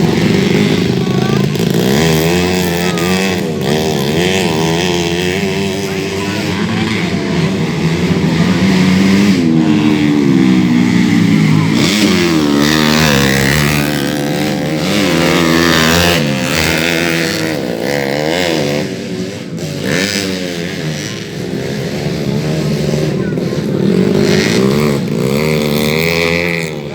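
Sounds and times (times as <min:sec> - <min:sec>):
racing motorcycles revving: 0:00.0 - 0:26.9.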